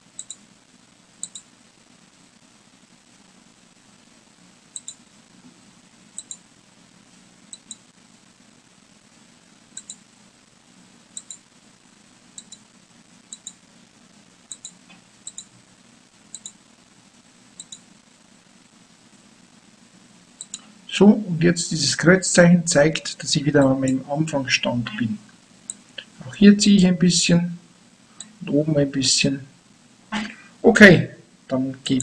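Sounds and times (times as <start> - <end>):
faint low hum: 0.0 - 32.0.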